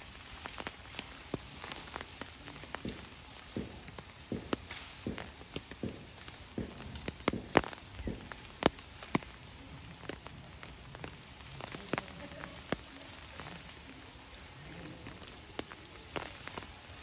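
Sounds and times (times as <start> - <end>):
rain falling: 0.0 - 17.0
sharp ticks of raindrops: 0.0 - 17.0.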